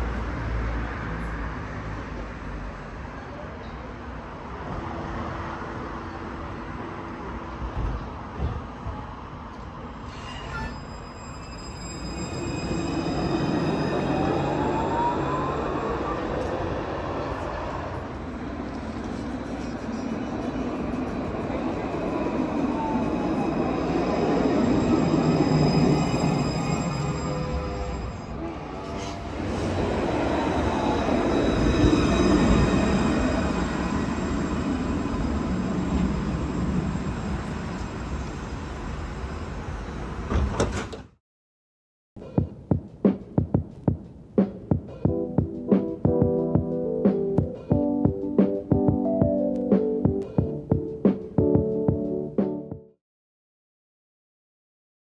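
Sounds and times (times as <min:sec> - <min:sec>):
tram rumbling on rails: 0:00.0 - 0:41.1, 0:43.7 - 0:52.3.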